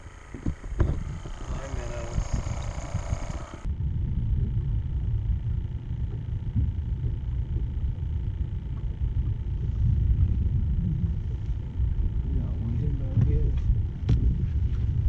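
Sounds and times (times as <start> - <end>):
faint high hum: 0.0 - 15.0
wind buffeting microphone: 0.0 - 15.0.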